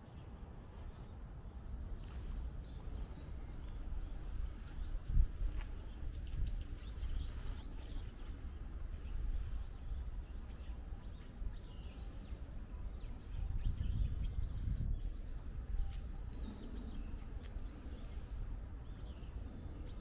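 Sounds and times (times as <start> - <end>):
birds chirping: 0.0 - 20.0
low outdoor rumble: 0.0 - 20.0.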